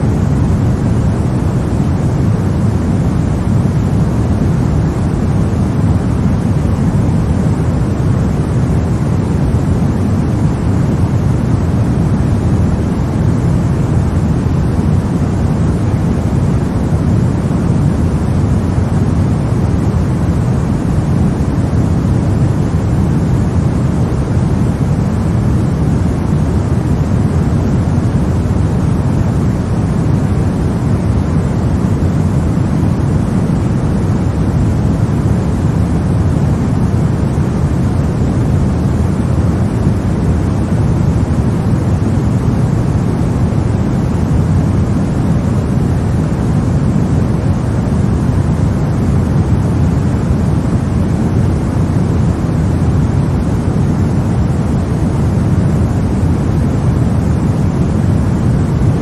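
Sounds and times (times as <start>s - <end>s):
steady deep white noise hiss: 0.0s - 59.0s.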